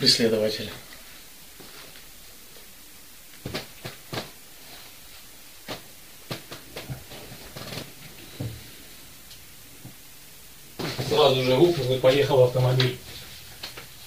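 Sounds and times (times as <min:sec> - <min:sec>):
quiet background hum: 0:00.0 - 0:14.0.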